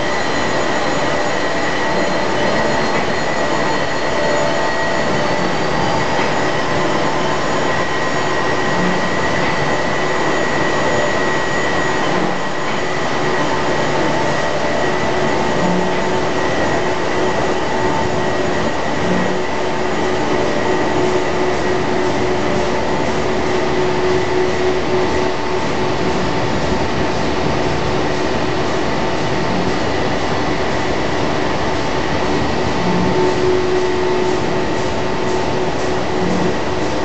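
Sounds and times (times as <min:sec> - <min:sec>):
machinery drone with hum tones: 0:00.0 - 0:37.0.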